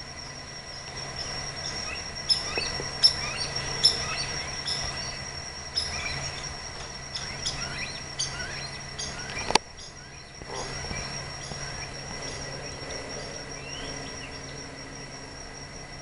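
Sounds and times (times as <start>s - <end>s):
birds chirping: 0.0s - 16.0s
insects droning: 0.0s - 16.0s.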